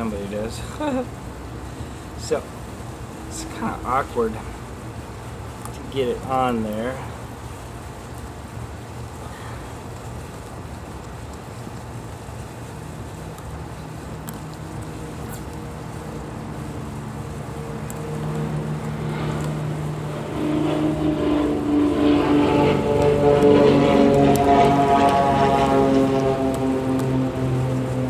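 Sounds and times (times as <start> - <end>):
engine low hum: 0.0 - 28.0.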